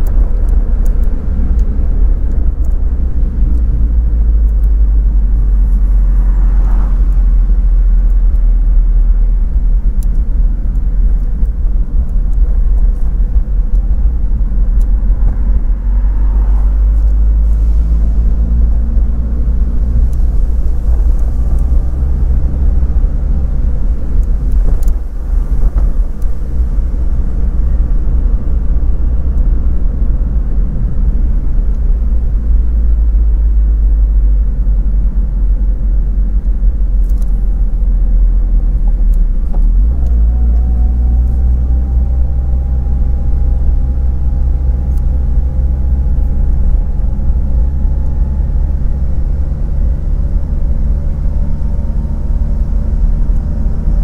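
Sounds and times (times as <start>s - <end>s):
car engine rumble: 0.0s - 54.0s
road noise: 0.0s - 54.0s
wind noise: 0.0s - 54.0s.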